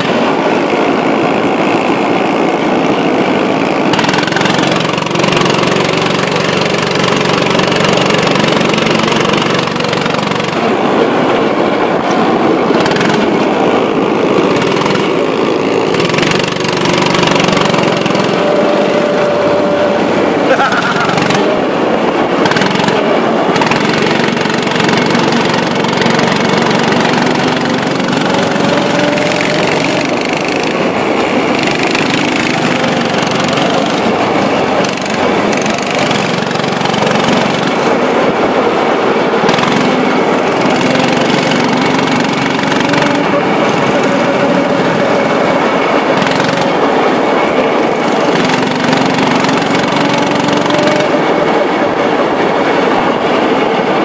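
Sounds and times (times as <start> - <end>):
go-kart engines running: 0.0 - 54.0.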